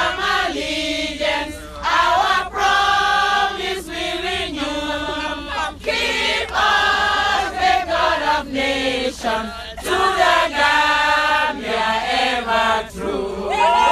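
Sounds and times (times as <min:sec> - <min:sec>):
men and women singing together: 0:00.0 - 0:13.9.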